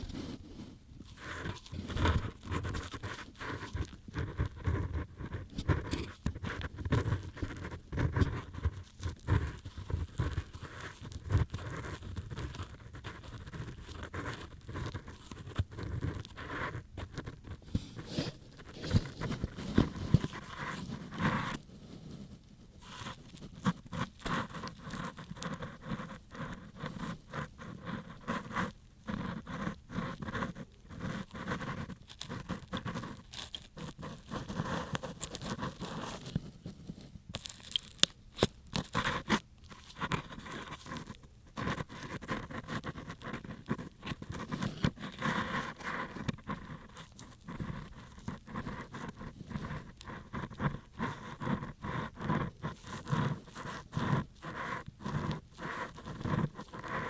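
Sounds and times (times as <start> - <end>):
ear pick scraping inside ear: 0.0 - 57.0.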